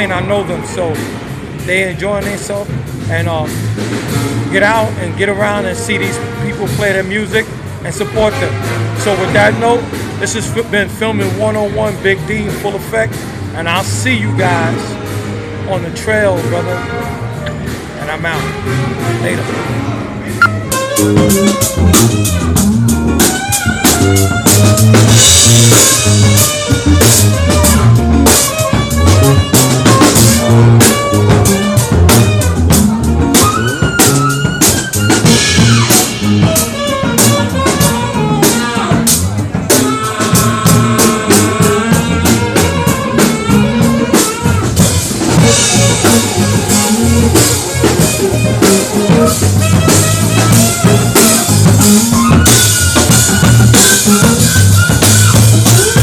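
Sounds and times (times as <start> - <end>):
band playing: 0.0 - 56.0
drum kit beat: 0.9 - 10.4, 20.3 - 56.0.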